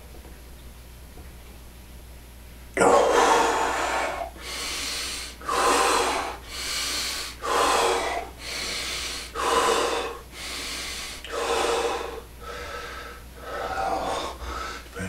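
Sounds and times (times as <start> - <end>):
man breathing forcefully: 2.8 - 15.0.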